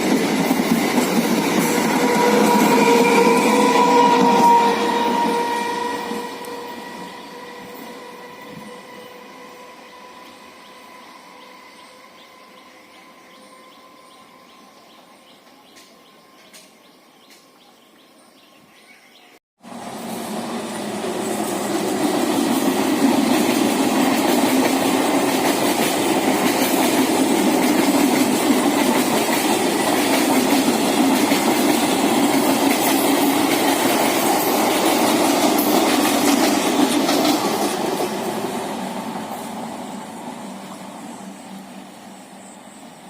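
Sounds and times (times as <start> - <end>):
passenger train running past: 0.0 - 17.4, 19.6 - 43.0.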